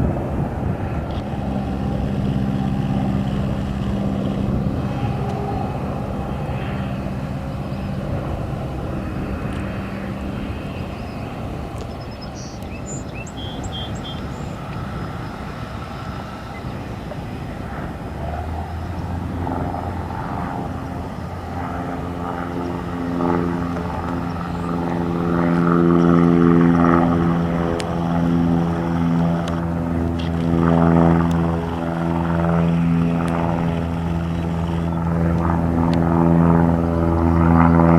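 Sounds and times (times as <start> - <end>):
clear pitched drone: 0.0 - 37.9
propeller airplane engine drone: 0.0 - 37.9.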